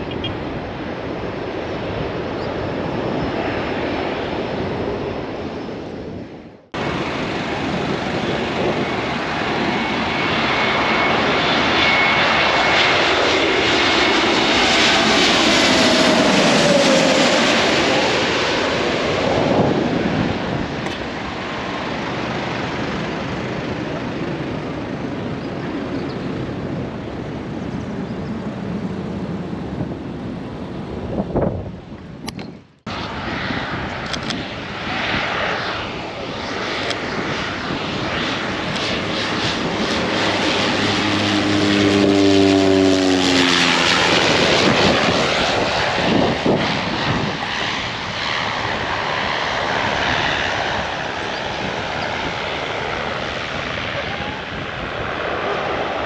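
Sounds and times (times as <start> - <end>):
propeller plane passing overhead: 0.0 - 56.0
wind noise: 0.0 - 56.0.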